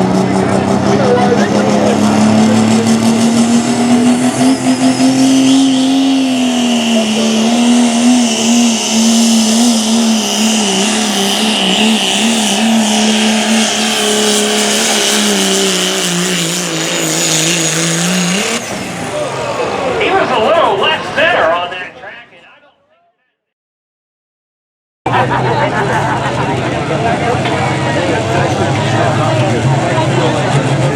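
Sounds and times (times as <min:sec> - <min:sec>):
diesel truck engine at full throttle: 0:00.0 - 0:22.4, 0:25.1 - 0:30.9.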